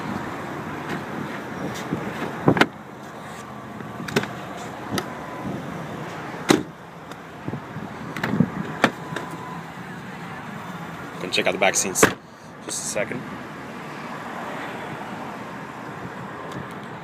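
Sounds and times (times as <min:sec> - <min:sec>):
vehicle noise: 0:00.0 - 0:17.0.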